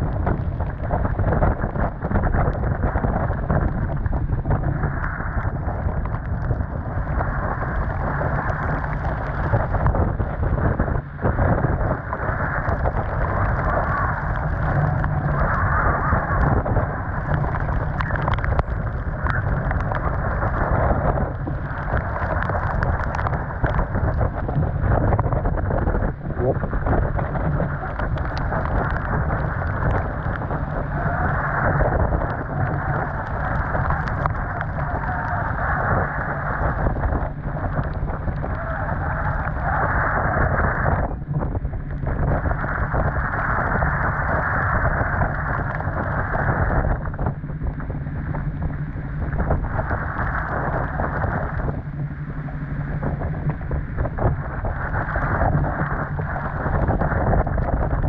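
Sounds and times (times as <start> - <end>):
driving rain: 0.0 - 58.0
storm wind: 0.0 - 58.0.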